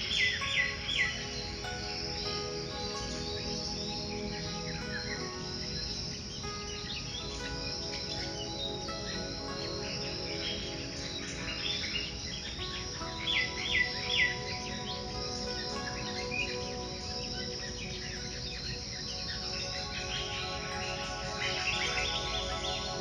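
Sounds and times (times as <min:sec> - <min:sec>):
birds chirping: 0:00.0 - 0:23.0
insect chorus: 0:00.0 - 0:23.0.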